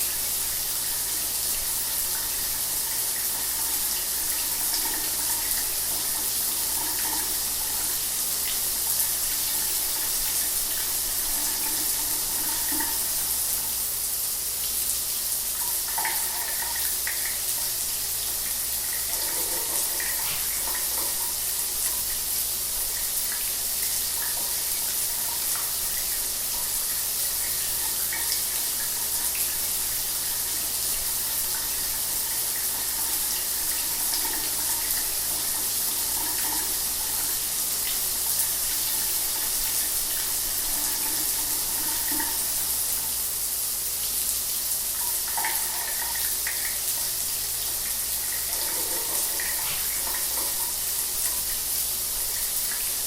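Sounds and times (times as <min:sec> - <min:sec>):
shower water spraying: 0:00.0 - 0:53.0.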